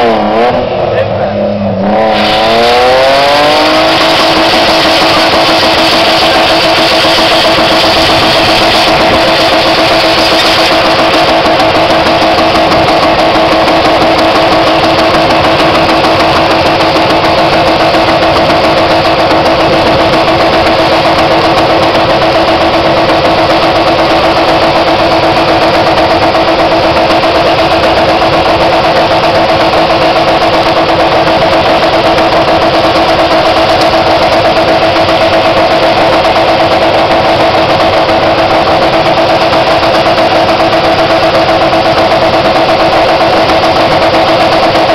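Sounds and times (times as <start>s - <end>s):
car engine at high revs: 0.0s - 44.9s
tyres spinning on pavement: 2.1s - 44.9s.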